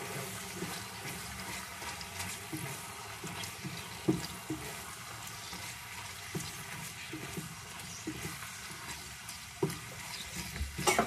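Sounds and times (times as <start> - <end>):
chicken sizzling in oil: 0.0 - 11.0
spatula scraping a pan: 0.0 - 11.0.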